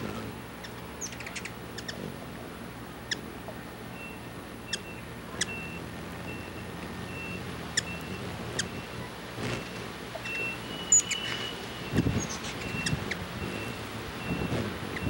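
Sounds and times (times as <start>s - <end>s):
hummingbird chip calls: 0.0s - 15.0s.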